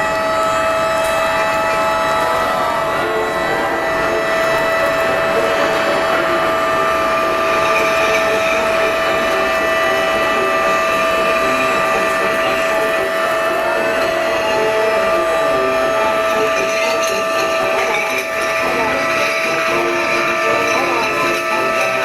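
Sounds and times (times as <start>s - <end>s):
dense background noise: 0.0s - 22.0s
ship horns and sirens: 0.0s - 22.0s.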